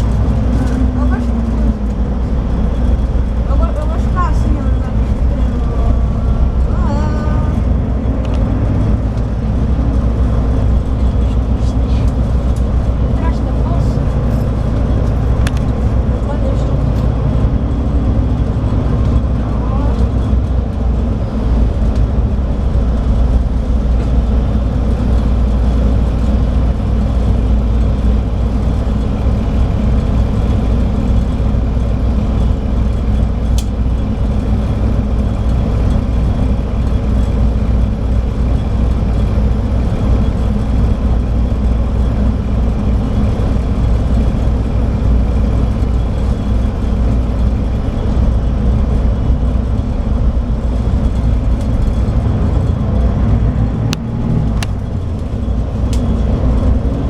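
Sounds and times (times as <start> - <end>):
diesel coach engine droning: 0.0 - 57.0
road noise: 0.0 - 57.0.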